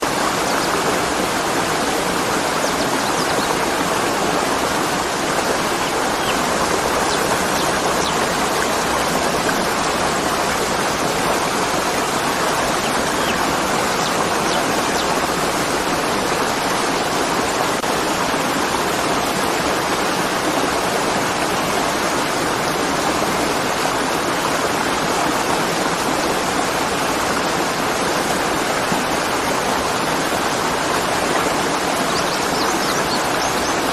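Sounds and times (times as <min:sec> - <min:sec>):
waterfall crashing: 0:00.0 - 0:33.9.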